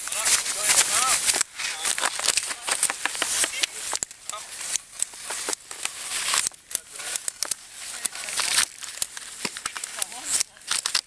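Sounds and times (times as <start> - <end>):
rustling: 0.0 - 11.0
binding straps ratcheting: 0.9 - 11.0.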